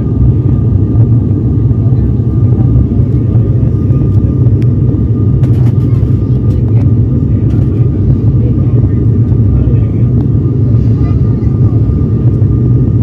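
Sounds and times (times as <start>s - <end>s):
propeller engine drone: 0.0s - 13.0s.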